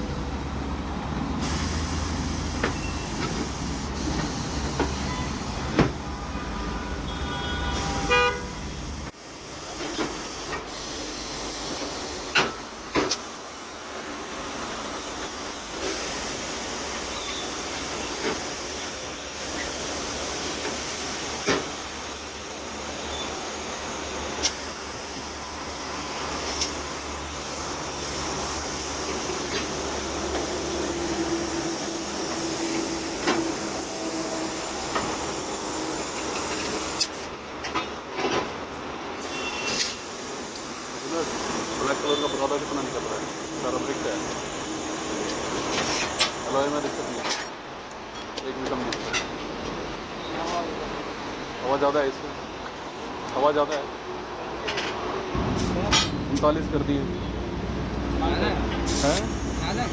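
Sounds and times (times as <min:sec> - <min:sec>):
compressed air hissing: 0:01.4 - 0:37.3, 0:39.2 - 0:47.4, 0:55.4 - 0:59.9.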